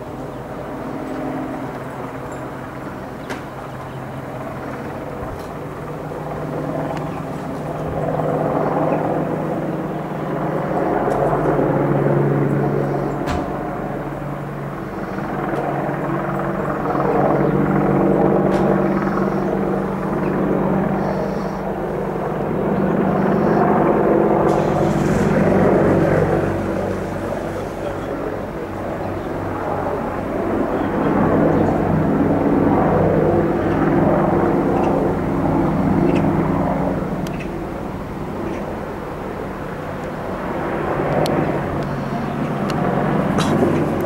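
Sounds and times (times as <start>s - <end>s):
helicopter rotor pulsing: 0.0s - 44.0s
jet airliner engines: 0.0s - 44.0s.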